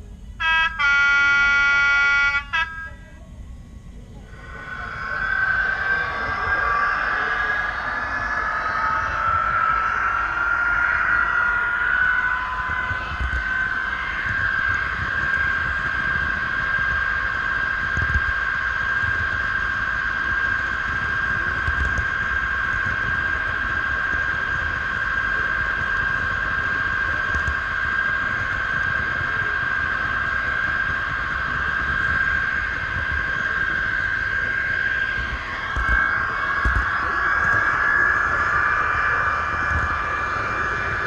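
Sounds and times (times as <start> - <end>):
small electric motor whine: 3.9 - 41.0.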